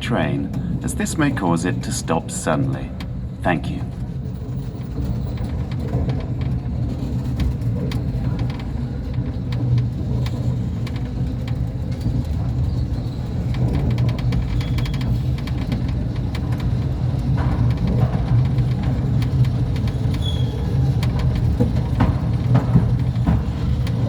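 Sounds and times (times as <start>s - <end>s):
small electric train rumbling: 0.0s - 24.0s
wheels clicking and rattling: 0.0s - 24.0s.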